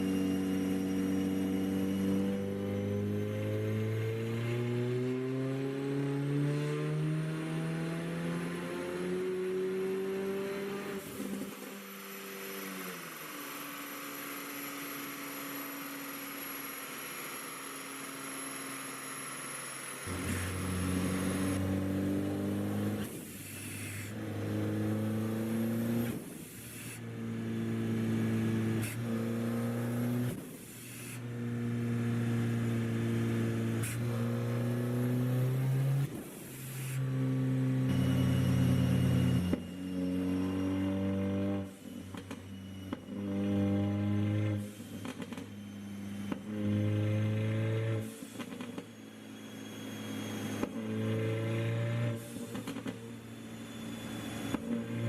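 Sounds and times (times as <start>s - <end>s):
car engine revving on dyno: 0.0s - 55.0s.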